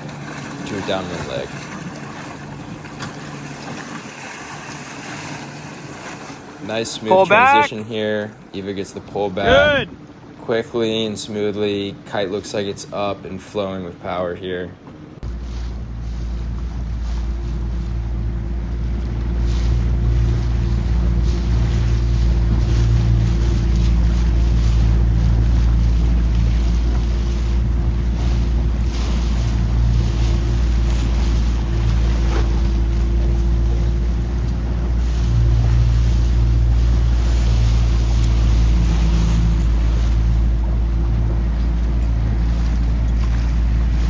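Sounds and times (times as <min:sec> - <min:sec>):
water rushing past boat: 0:00.0 - 0:44.0.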